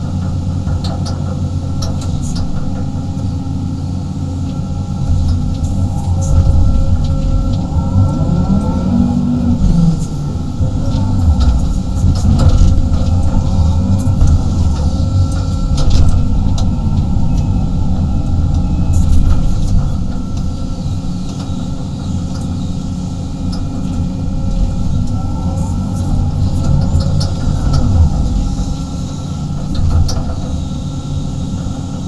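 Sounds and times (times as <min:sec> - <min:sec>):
excavator diesel engine rumble: 0:00.0 - 0:32.0
thin steady whine: 0:00.0 - 0:32.0.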